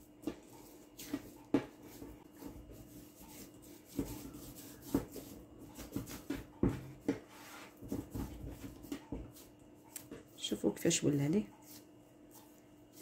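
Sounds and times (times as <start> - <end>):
hand patting dough-like paste: 0.0 - 10.6.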